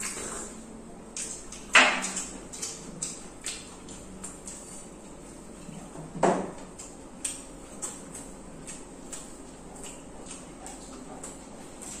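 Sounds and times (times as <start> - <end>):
mouth chewing sounds: 0.0 - 6.0, 6.6 - 12.0.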